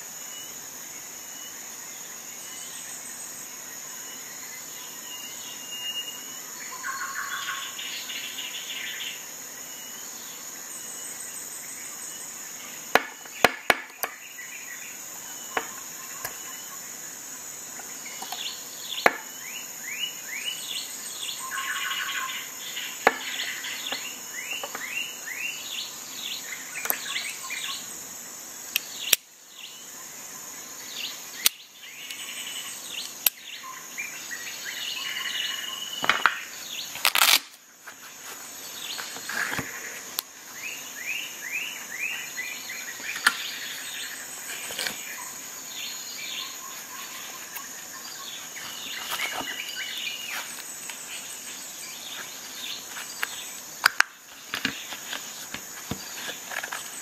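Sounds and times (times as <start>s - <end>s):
high insect drone: 0.0s - 57.0s
birds singing: 1.4s - 27.9s, 28.7s - 37.4s, 38.6s - 57.0s.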